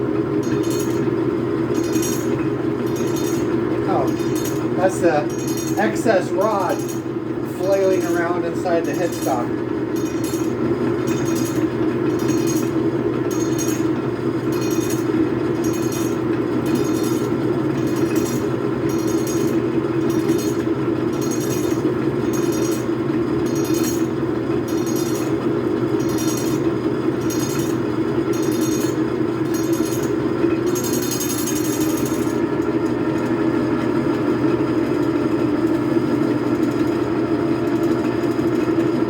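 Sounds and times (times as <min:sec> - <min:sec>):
lathe running: 0:00.0 - 0:39.0
metal rod clattering in spindle: 0:00.4 - 0:32.4.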